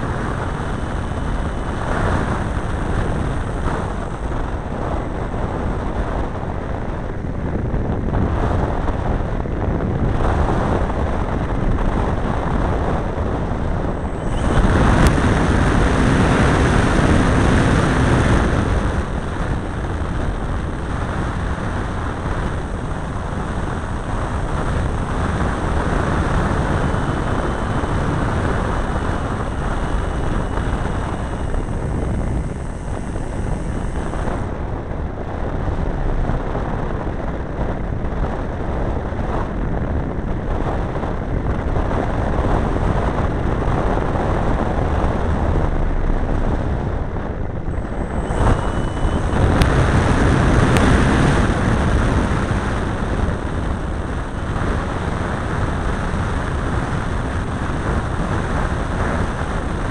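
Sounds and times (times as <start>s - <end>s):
model airplane engine: 0.0s - 59.9s
wind rushing on microphone: 0.0s - 59.9s.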